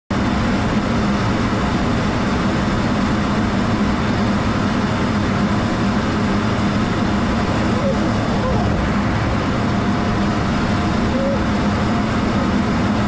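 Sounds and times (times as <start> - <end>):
jet engine and airflow rushing: 0.1 - 13.0
low hum: 0.1 - 13.0.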